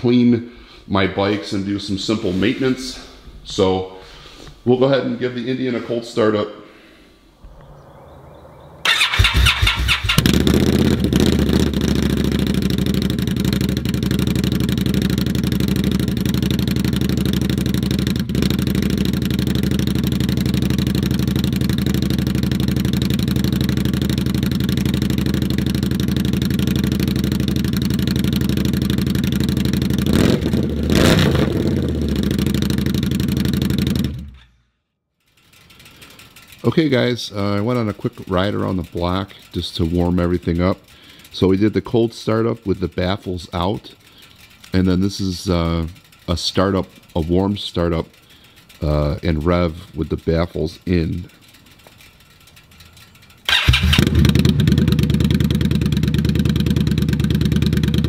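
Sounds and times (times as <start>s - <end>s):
motorcycle engine revving: 7.4s - 34.5s, 35.3s - 58.0s
motorcycle engine starting and idling: 7.4s - 58.0s.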